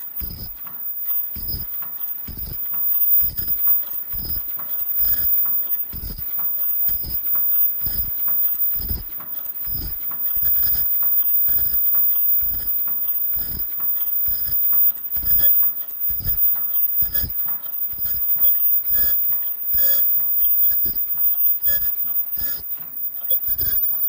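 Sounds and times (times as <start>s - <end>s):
machine thumping and clicking: 0.0s - 24.0s
steady mechanical clatter: 0.0s - 24.0s.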